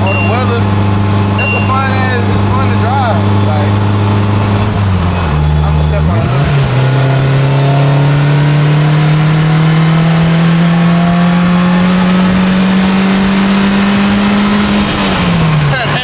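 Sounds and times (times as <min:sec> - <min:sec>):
engine accelerating hard: 0:00.0 - 0:16.0.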